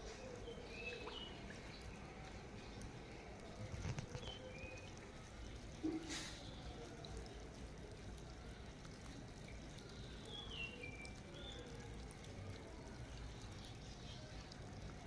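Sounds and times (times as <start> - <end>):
trickling water: 0.0 - 15.0.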